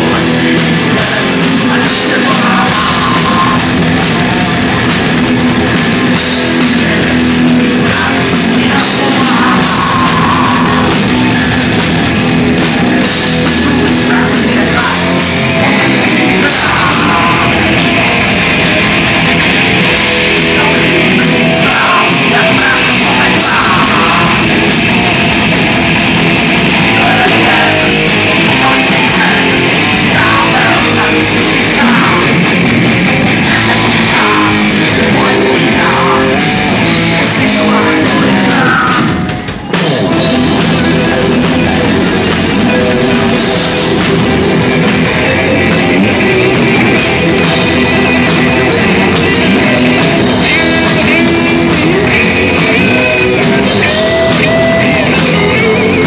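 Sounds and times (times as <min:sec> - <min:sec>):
heavy metal band playing live: 0:00.0 - 0:56.0
lead electric guitar: 0:00.0 - 0:56.0
singer's vocals: 0:00.0 - 0:56.0.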